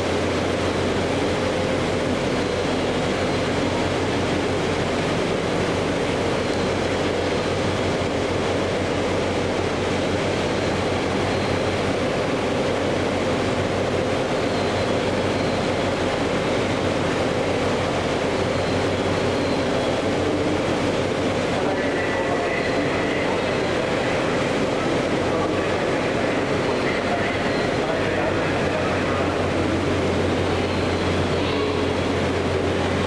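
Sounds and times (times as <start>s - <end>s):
faint whine: 0.0s - 33.0s
train rumbling into station: 0.0s - 33.0s.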